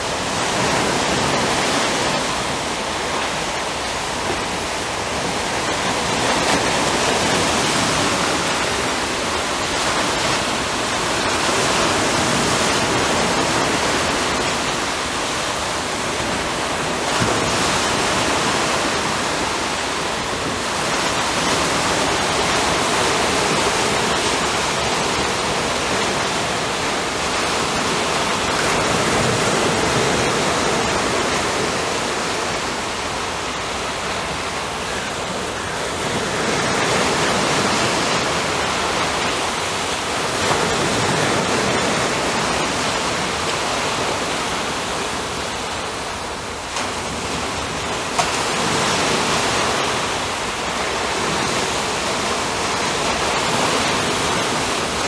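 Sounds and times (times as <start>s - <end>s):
waves washing over rocks: 0.0s - 55.0s.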